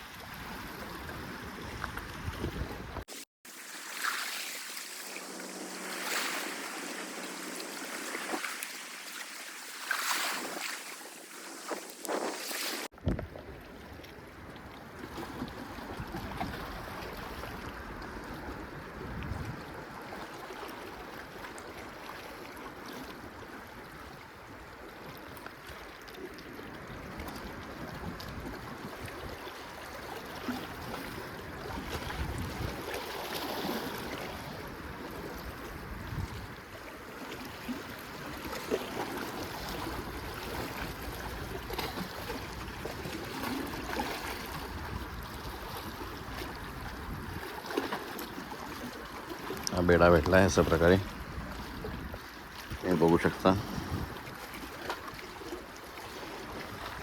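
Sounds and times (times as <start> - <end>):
water lapping and trickling: 0.0 - 57.0.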